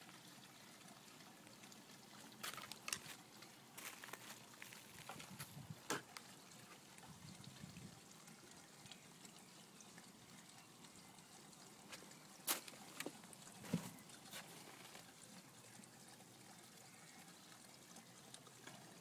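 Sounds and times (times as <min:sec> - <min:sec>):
water trickling into pond: 0:00.0 - 0:19.0.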